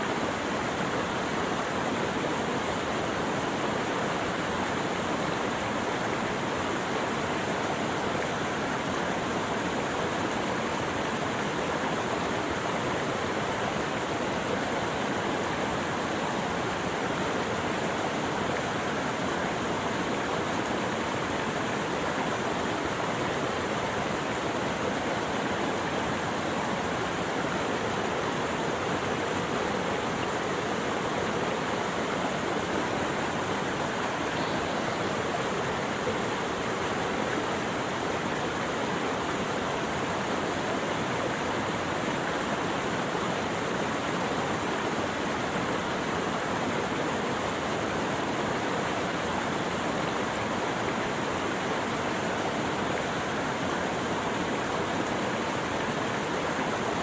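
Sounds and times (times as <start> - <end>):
rushing flowing water: 0.0 - 57.0.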